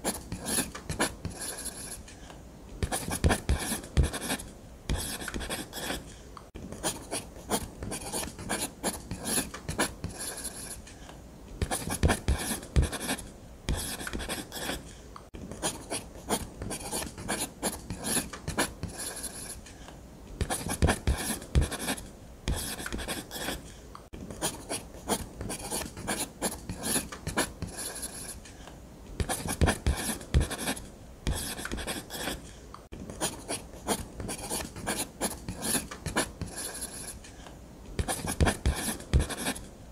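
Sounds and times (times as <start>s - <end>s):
ballpoint pen drawing on paper: 0.0s - 2.0s, 2.8s - 6.1s, 6.8s - 10.8s, 11.6s - 14.8s, 15.6s - 19.6s, 20.4s - 23.6s, 24.4s - 28.4s, 29.2s - 32.4s, 33.2s - 37.2s, 38.0s - 39.7s.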